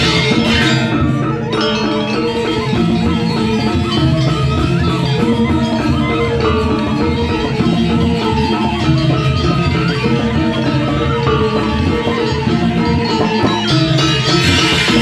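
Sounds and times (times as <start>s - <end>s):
hand drums playing: 0.0s - 15.0s
metallophones ringing: 0.0s - 15.0s.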